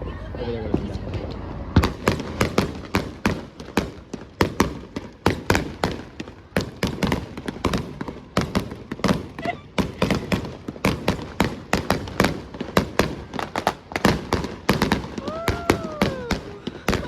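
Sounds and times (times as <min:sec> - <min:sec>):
fireworks bangs: 0:00.7 - 0:17.0.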